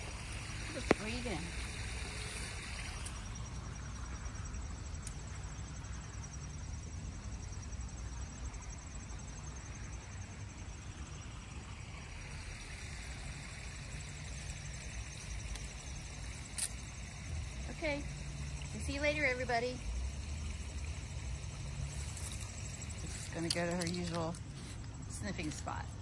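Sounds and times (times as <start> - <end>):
insects trilling: 0.0 - 26.0
steady low rumble: 0.0 - 26.0.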